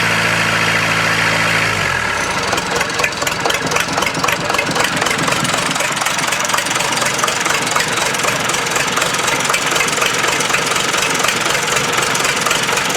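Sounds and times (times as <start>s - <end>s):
diesel engine clattering: 0.0s - 12.9s.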